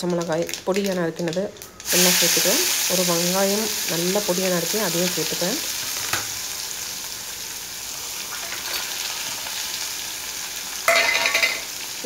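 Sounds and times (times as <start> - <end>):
onions sizzling in hot oil: 0.0 - 12.0
sudden sizzle burst: 1.7 - 12.0.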